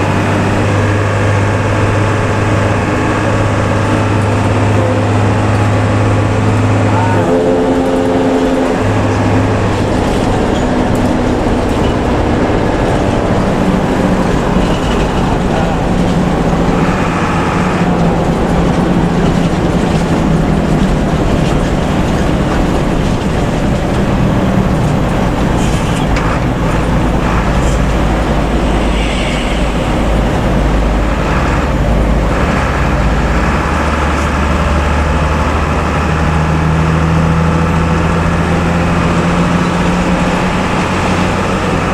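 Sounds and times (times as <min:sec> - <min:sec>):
bus engine drone: 0:00.0 - 0:41.9
road noise: 0:00.0 - 0:41.9.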